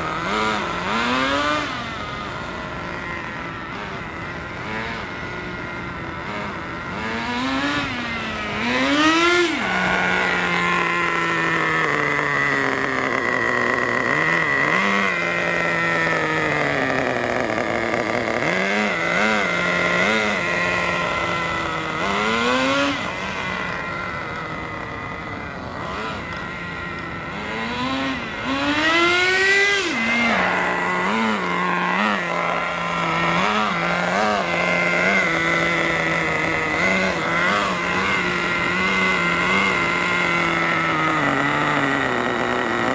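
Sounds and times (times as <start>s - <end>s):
high whine: 0.0s - 42.9s
rc car engine revving: 0.0s - 42.9s.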